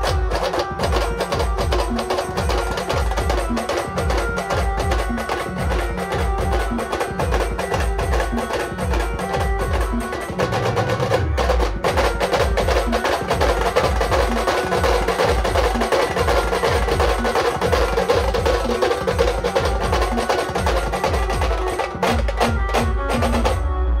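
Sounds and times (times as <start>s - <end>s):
fast drumming: 0.0s - 23.6s.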